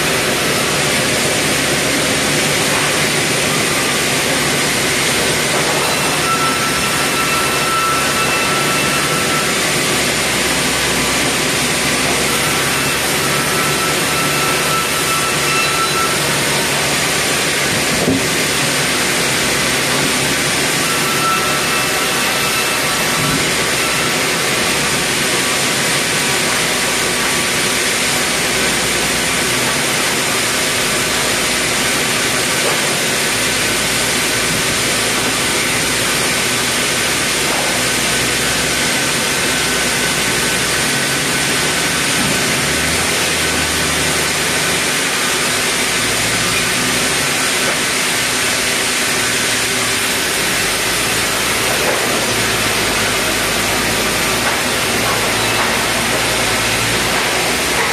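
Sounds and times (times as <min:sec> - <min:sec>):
band saw running: 0:00.0 - 0:57.9.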